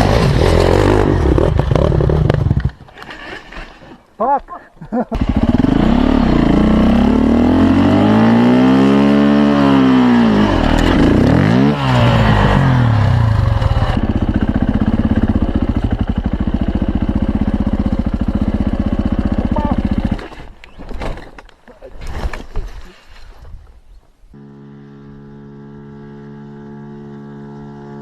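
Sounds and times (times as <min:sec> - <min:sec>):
motorcycle engine revving and idling: 0:00.0 - 0:03.6, 0:05.0 - 0:20.5, 0:24.4 - 0:28.0.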